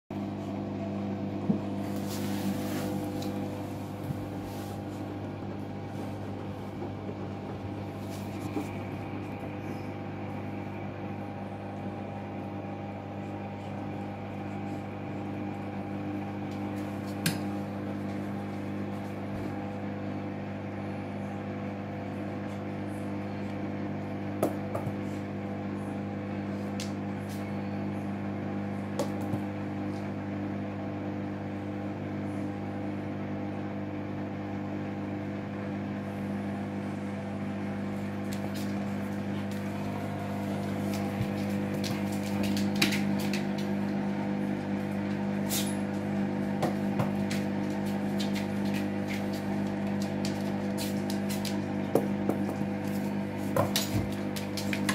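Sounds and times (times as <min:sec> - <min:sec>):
washing machine motor hum: 0:00.1 - 0:54.9.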